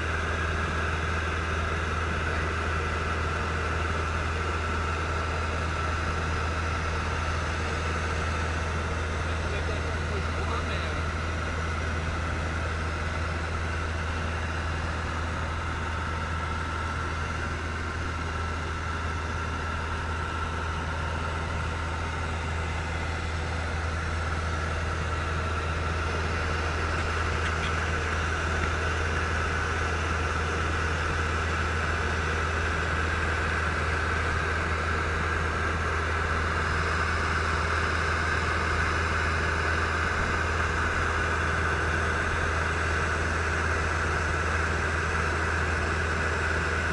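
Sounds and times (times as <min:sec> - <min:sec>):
aircraft engine and propeller drone: 0:00.0 - 0:46.9.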